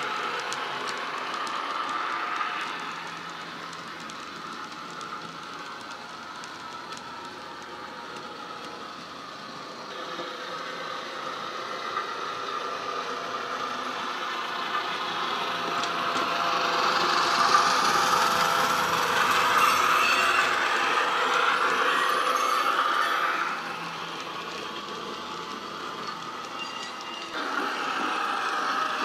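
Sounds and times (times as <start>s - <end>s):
model wagons rattling on track: 0.0s - 9.8s, 13.0s - 29.0s.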